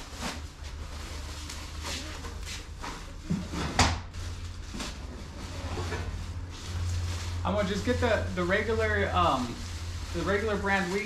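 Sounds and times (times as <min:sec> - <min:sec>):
plastic packaging rustling: 0:00.0 - 0:03.3, 0:04.0 - 0:11.0.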